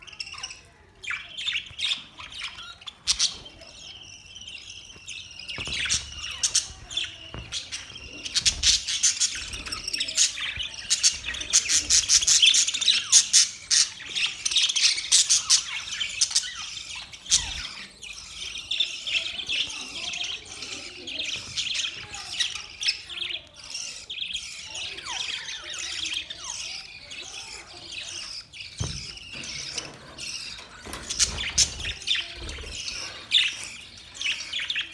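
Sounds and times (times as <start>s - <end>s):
flock of budgerigars chirping: 0.0s - 34.9s.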